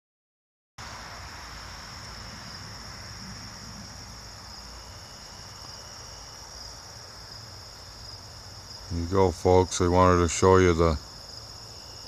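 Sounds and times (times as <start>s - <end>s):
faint low background rumble: 0.8s - 11.6s
crickets chirring: 0.8s - 12.0s.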